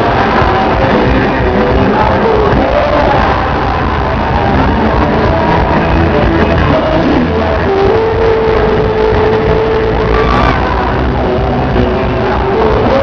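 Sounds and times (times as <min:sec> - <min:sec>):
live band playing: 0:00.0 - 0:13.0
person singing: 0:00.0 - 0:13.0.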